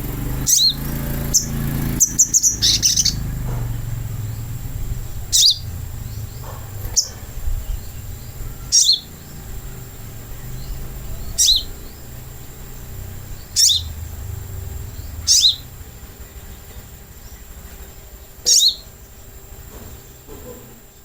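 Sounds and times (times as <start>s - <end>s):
low steady hum: 0.0s - 21.0s
sunbird high calls: 0.0s - 21.0s.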